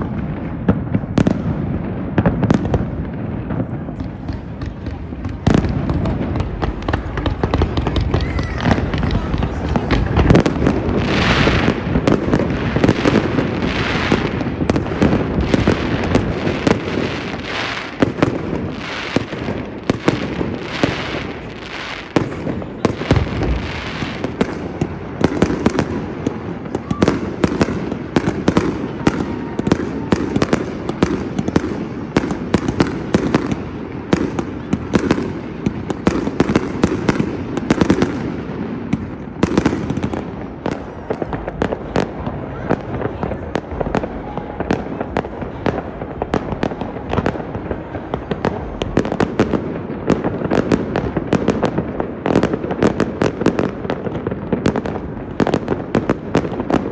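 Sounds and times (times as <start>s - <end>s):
fireworks bangs and pops: 0.0s - 56.9s
fireworks hissing and crackling: 0.0s - 56.9s.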